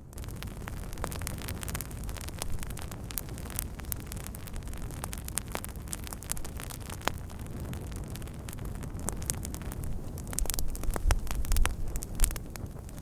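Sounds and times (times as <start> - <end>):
rush of flames: 0.0 - 13.0
wood fire crackling: 0.0 - 13.0.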